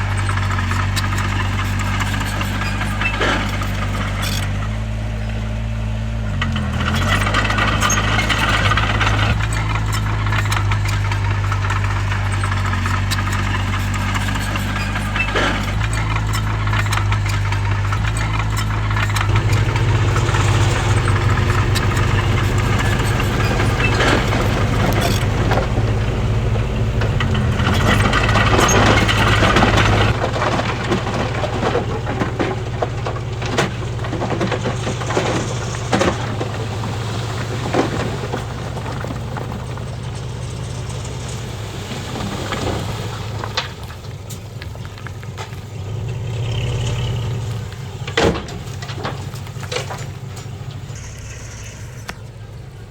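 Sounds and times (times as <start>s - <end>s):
bulldozer diesel engine running: 0.0s - 52.9s
rattling and scraping: 0.0s - 52.9s.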